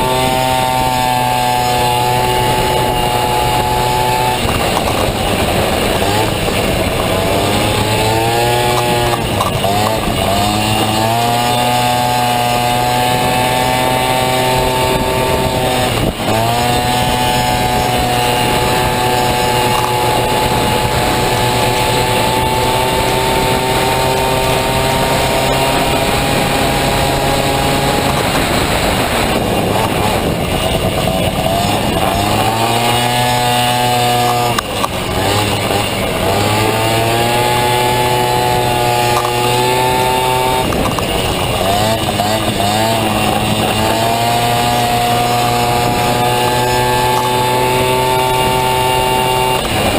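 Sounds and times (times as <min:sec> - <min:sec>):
two-stroke scooter engine revving: 0:00.0 - 0:49.9.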